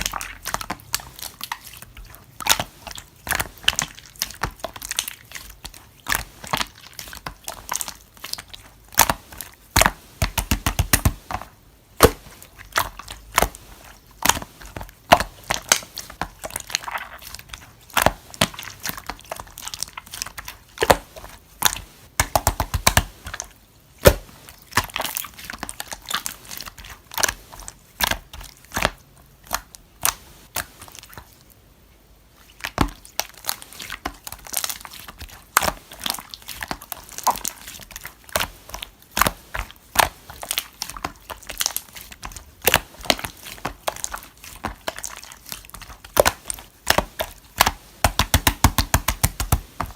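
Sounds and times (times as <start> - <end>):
slime kneaded by hand: 0.0 - 49.9.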